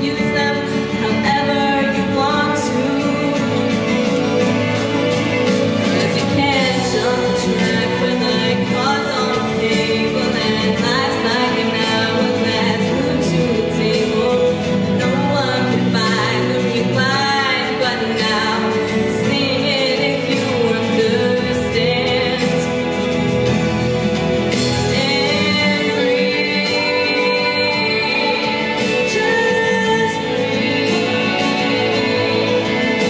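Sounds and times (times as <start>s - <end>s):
woman singing pop song: 0.0s - 23.6s, 24.4s - 33.0s
instrumental accompaniment: 0.0s - 33.0s.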